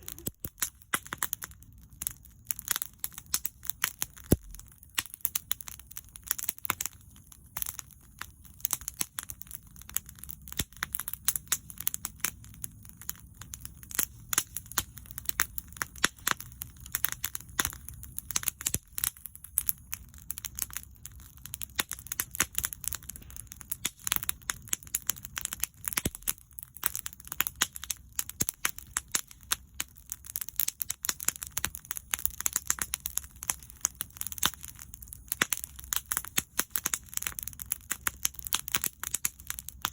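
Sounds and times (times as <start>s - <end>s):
bonfire crackling and popping: 0.0s - 39.9s
low rumble of flames: 0.0s - 39.9s.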